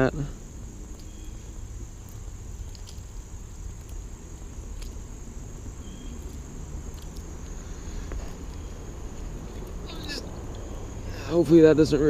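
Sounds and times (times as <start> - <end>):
high-pitched insect trilling: 0.0 - 12.0.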